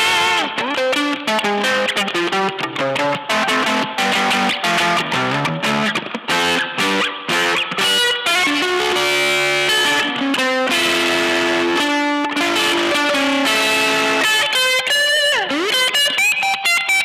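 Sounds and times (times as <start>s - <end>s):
overdriven electric guitar: 0.0s - 17.0s.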